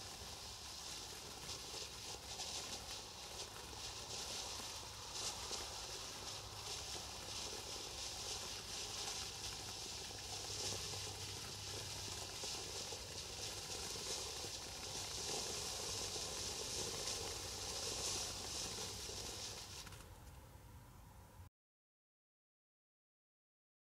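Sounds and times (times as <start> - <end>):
firework fountain hissing: 0.0 - 20.4.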